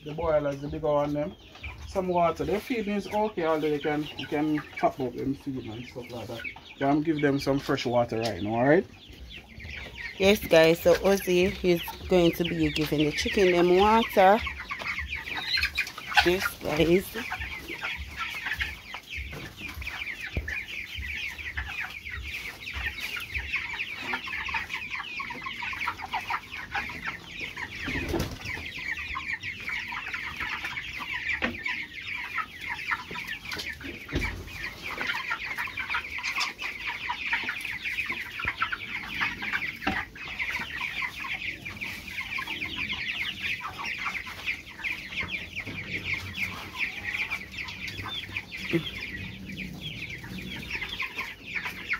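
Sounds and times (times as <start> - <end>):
chicks peeping and chirping: 0.0 - 51.9.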